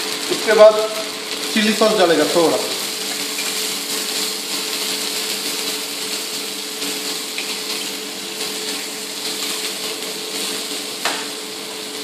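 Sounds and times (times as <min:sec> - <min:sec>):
steady mechanical hum: 0:00.0 - 0:12.0
vegetables sizzling in hot oil: 0:00.0 - 0:12.0.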